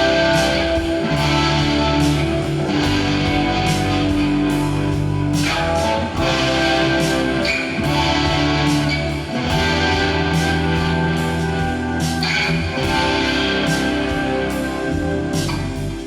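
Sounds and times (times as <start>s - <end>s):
bass guitar: 0.0s - 16.0s
electric guitar chords: 0.0s - 16.0s
programmed drums: 0.0s - 16.0s.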